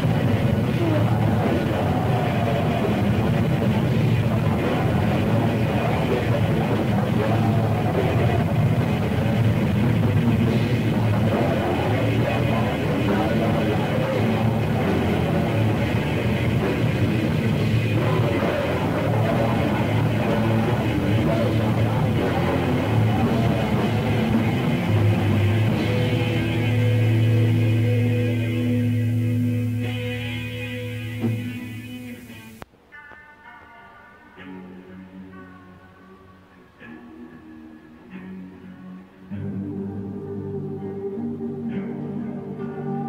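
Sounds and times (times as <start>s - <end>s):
black metal band playing: 0.0s - 36.2s
steady held notes: 0.0s - 43.0s.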